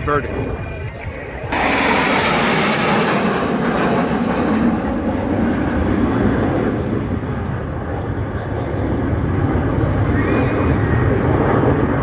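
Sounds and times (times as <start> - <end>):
aircraft flying past: 1.4 - 12.0.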